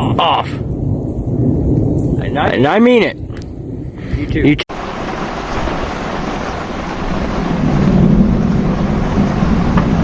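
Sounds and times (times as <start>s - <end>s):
strong storm wind blowing: 0.0s - 10.0s
wind buffeting microphone: 0.0s - 10.0s.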